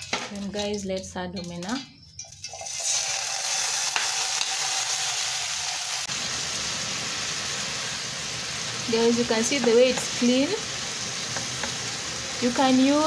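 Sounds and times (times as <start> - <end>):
fish sizzling in hot oil: 2.2 - 13.0.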